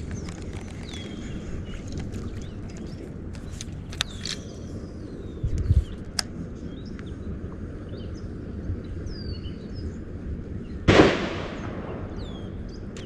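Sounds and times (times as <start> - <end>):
birds chirping faintly: 0.0 - 10.8, 11.5 - 13.0
outdoor background noise: 0.0 - 13.0.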